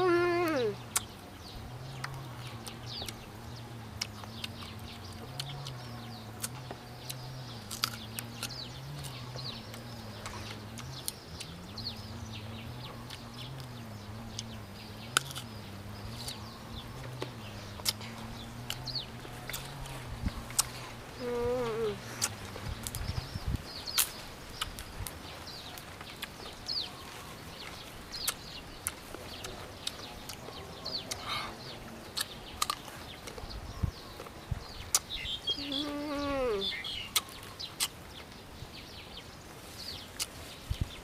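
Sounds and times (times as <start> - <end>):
birds chirping: 0.0 - 41.0
chewing crunchy mango: 0.8 - 35.8, 37.0 - 38.0.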